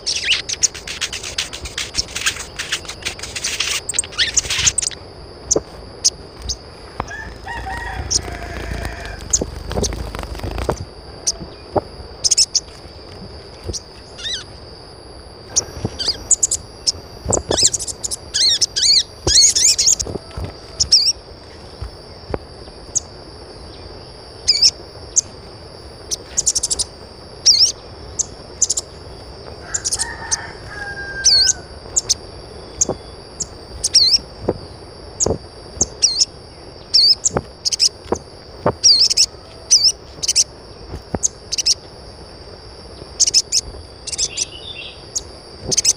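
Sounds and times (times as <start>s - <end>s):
birds chirping: 0.0s - 41.9s, 42.7s - 45.9s
steady high-pitched whine: 0.0s - 45.9s.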